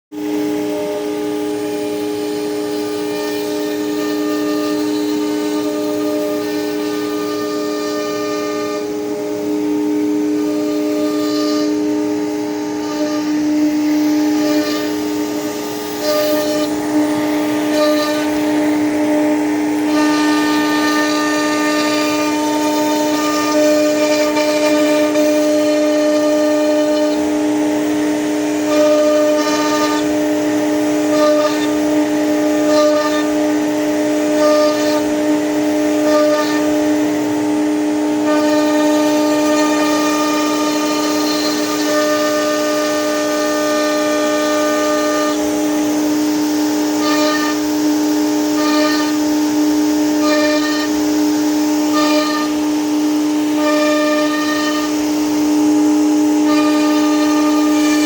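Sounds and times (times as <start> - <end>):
cnc machine motors whining: 0.2 - 58.0.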